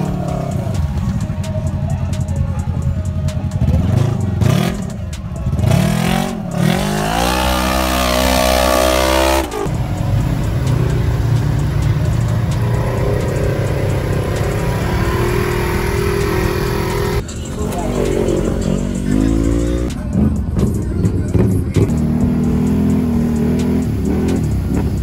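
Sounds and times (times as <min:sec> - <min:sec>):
engine drone of vehicles cruising: 0:00.0 - 0:25.0
utility vehicle engine revving: 0:00.0 - 0:25.0.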